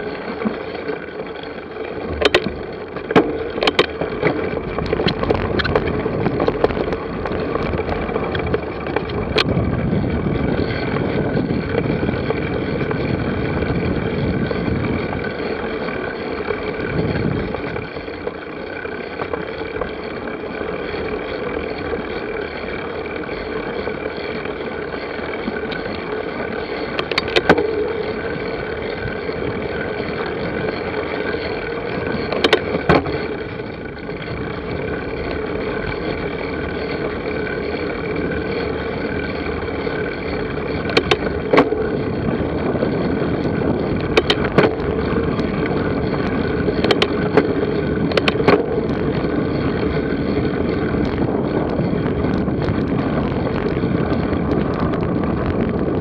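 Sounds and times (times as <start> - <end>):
vehicle running noise: 0.0 - 56.0
sharp knocks and rattles: 0.4 - 55.6.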